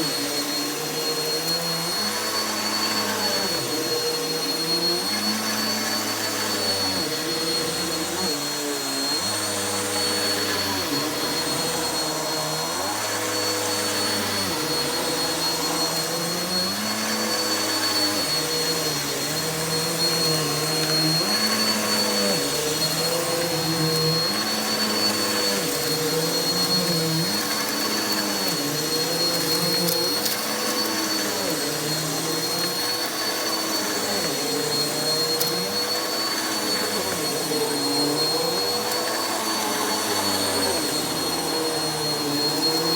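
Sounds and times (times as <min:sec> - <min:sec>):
vacuum cleaner on carpet: 0:00.0 - 0:42.9.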